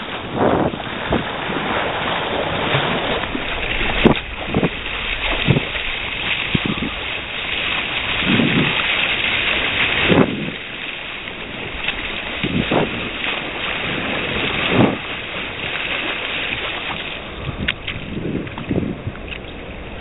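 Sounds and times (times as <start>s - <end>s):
water splashes: 0.0s - 20.0s
wind rushing over microphone: 0.0s - 20.0s.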